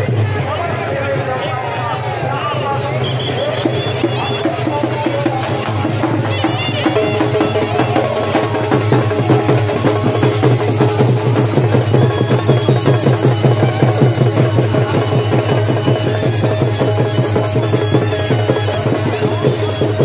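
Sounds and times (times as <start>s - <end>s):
fast drumming: 0.0s - 20.0s.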